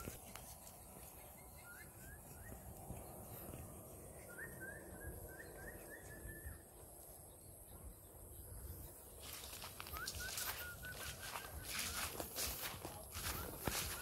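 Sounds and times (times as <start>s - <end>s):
bird chirping: 0.6s - 12.2s.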